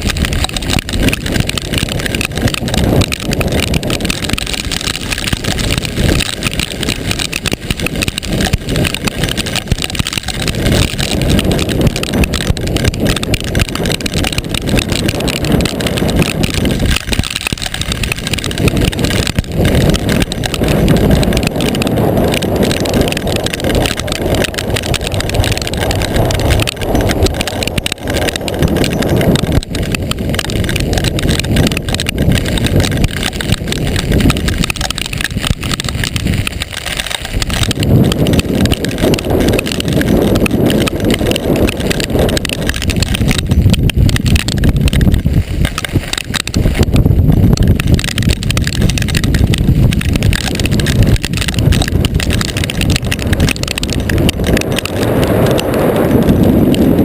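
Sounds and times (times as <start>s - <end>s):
gusty wind buffeting microphone: 0.0s - 57.0s.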